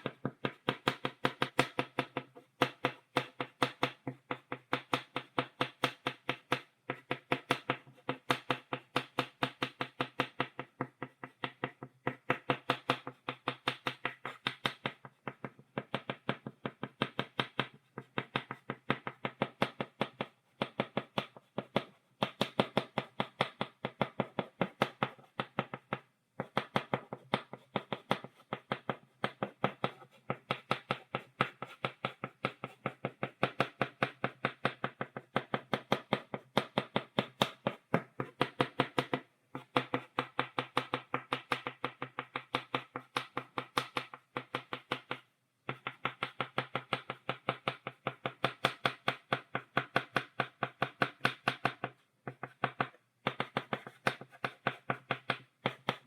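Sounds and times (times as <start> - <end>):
chalk tapping on blackboard: 0.0 - 56.0.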